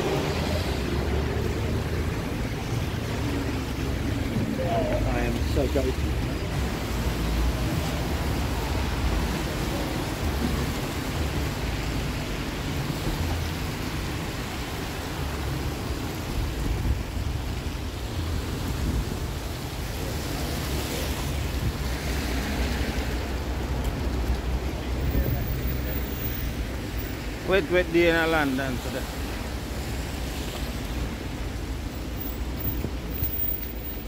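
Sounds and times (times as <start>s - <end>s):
rain hissing: 0.0s - 34.0s.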